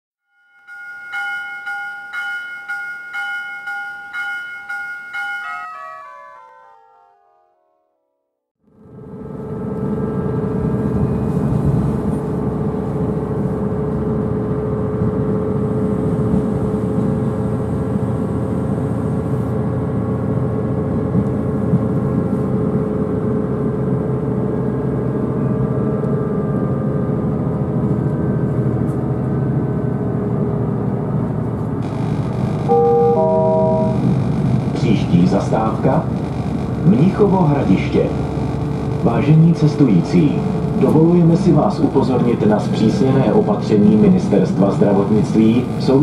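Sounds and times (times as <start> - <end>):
diesel engine whine: 8.6 - 46.0.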